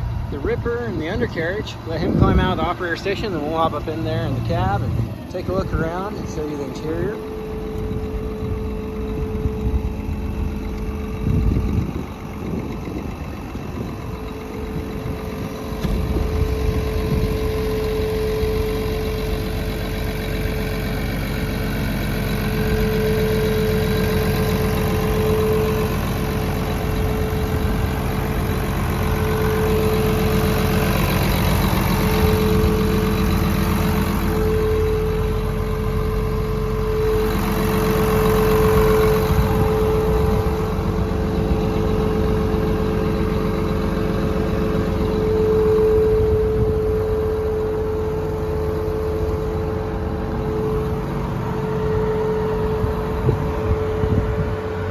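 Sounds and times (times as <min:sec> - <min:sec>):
dozer diesel engine humming: 0:00.0 - 0:54.9.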